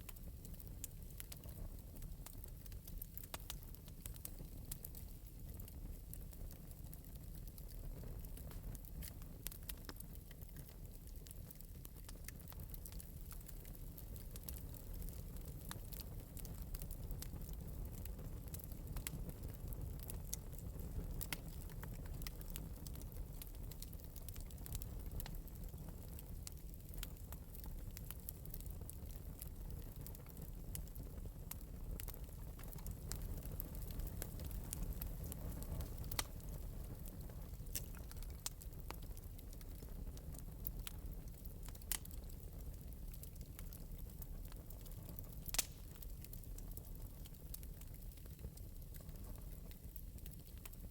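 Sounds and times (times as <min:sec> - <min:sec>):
fire crackling and popping: 0:00.0 - 0:50.9
low rumble of flame: 0:00.0 - 0:50.9.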